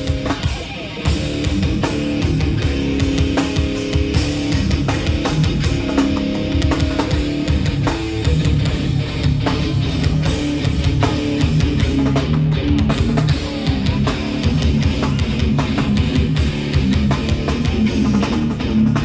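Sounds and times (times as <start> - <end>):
distorted electric guitars and bass: 0.0 - 19.0
pounding drum kit: 0.0 - 19.0.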